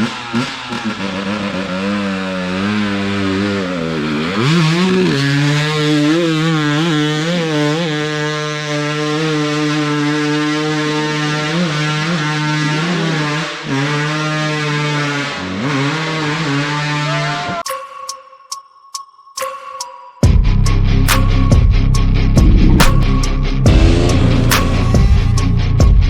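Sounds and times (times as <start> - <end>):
dirt bike engine revving: 0.0 - 17.6, 22.3 - 26.0.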